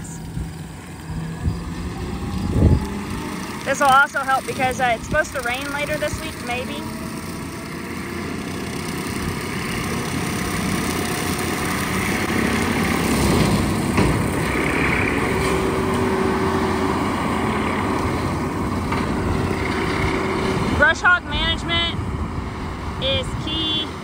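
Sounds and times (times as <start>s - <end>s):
diesel engine under load: 0.0s - 24.0s
brush cutter shredding weeds: 0.2s - 20.8s.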